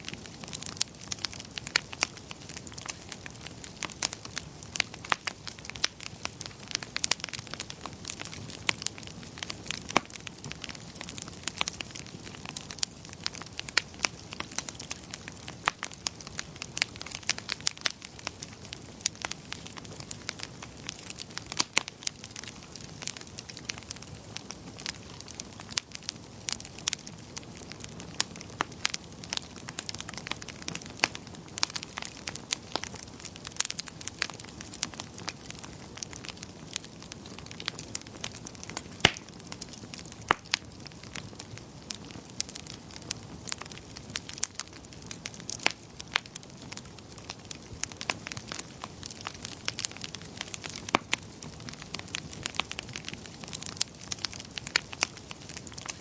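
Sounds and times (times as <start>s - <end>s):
low rumble of burning logs: 0.0s - 56.0s
wood fire crackling and popping: 0.0s - 56.0s.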